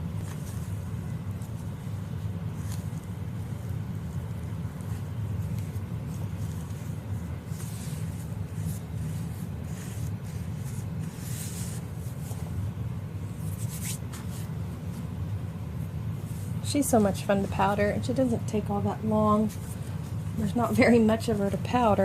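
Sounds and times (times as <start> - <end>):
soft powder swishes: 0.0 - 22.0
steady low hum: 0.0 - 22.0.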